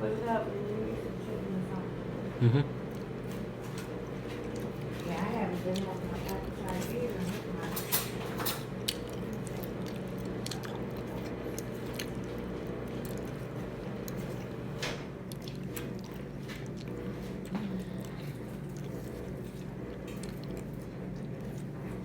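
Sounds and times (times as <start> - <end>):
steady low hum: 0.0 - 22.0
person chewing food: 2.8 - 22.0.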